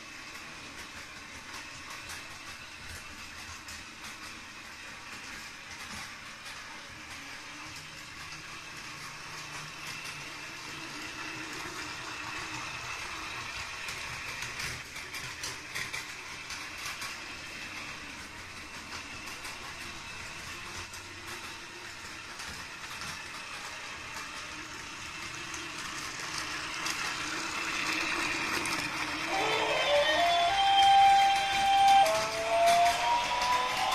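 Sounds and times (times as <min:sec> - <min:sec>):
toy train motor whir: 0:00.0 - 0:33.9
toy train wheels clicking: 0:00.0 - 0:33.9.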